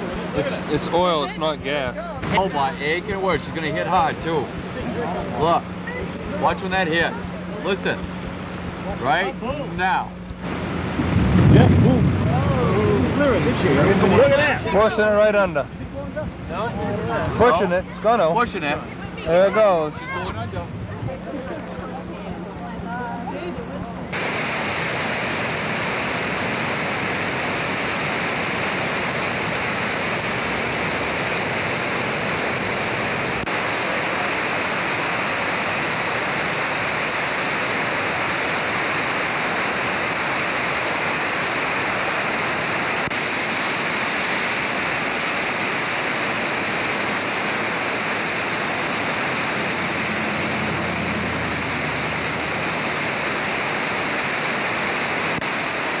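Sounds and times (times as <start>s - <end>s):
rushing whitewater: 0.0s - 23.5s, 24.1s - 56.0s.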